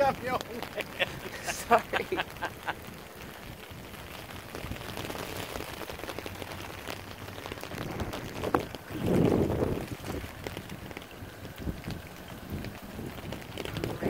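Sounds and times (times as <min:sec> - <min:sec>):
rain falling on water: 0:00.0 - 0:14.0.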